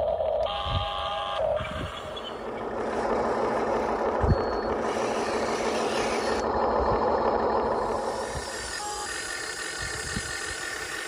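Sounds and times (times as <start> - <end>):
model bulldozer running: 0.0 - 11.0.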